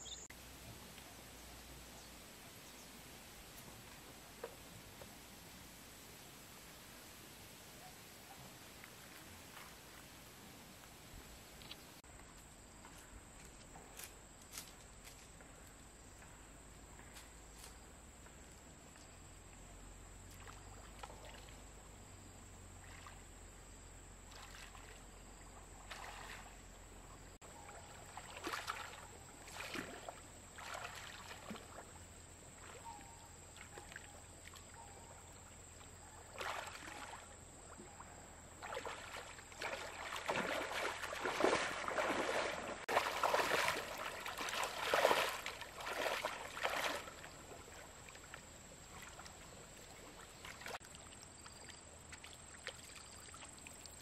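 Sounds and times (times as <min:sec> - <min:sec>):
water splashing and sloshing: 0:03.2 - 0:12.0, 0:18.5 - 0:54.0.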